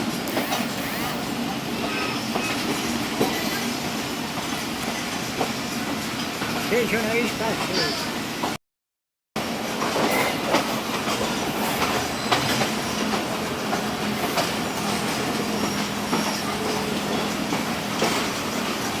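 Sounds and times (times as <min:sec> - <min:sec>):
train rumbling on rails: 0:00.0 - 0:08.6, 0:09.4 - 0:19.0.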